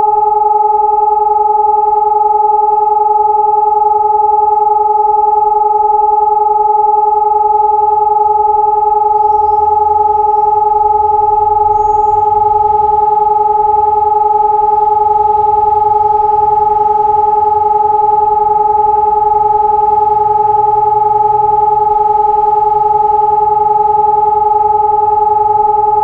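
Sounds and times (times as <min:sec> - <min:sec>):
electronic siren steady tone: 0:00.0 - 0:26.0.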